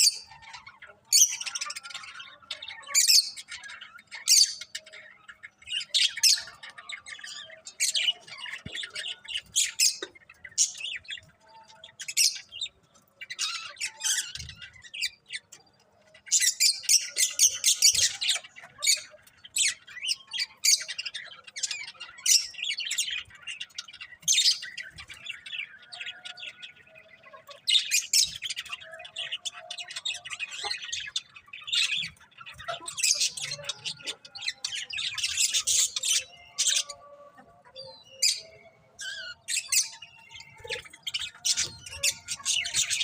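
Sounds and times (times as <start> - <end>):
budgies chirping and squawking: 0.0 - 43.0.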